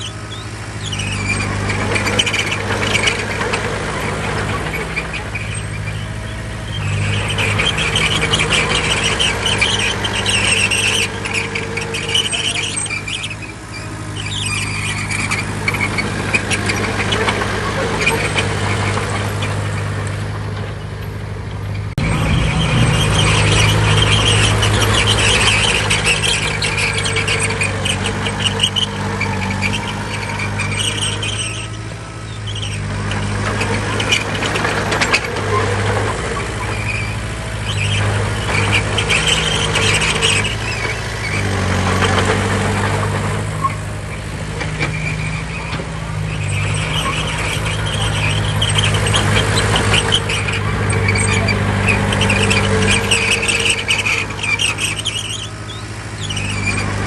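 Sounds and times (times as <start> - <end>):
heavy diesel machinery running: 0.0 - 57.0
high metallic squealing: 0.0 - 57.0.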